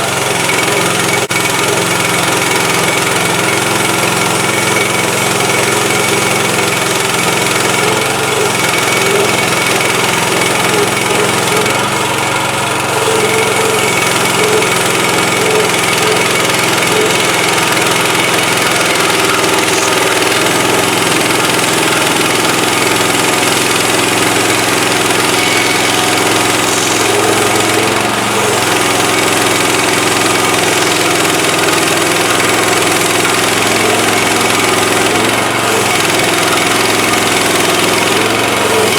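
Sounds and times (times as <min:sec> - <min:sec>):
gas engine running: 0:00.0 - 0:38.9.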